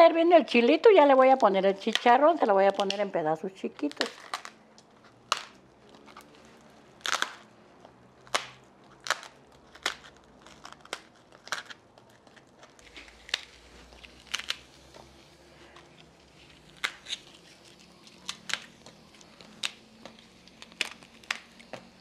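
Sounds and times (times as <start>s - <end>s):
pork rind snapped crackling: 1.3s - 7.5s, 8.1s - 21.9s.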